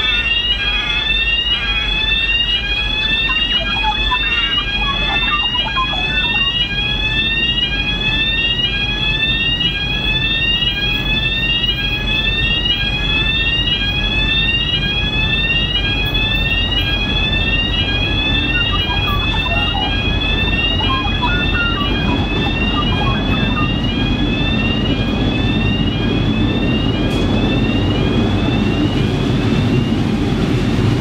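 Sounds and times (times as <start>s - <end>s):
crossing alarm rising electronic tone: 0.0s - 31.0s
low train rumble: 0.0s - 31.0s.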